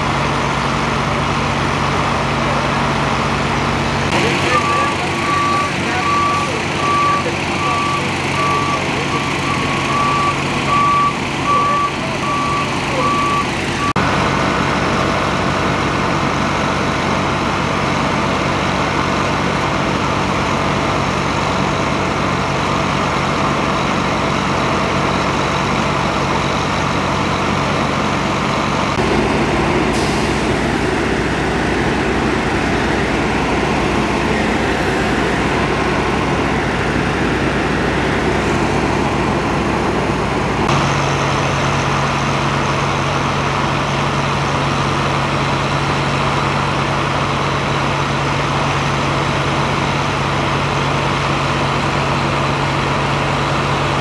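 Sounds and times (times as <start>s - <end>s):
fire truck engines running: 0.0s - 54.0s
truck reversing beeper: 0.0s - 54.0s.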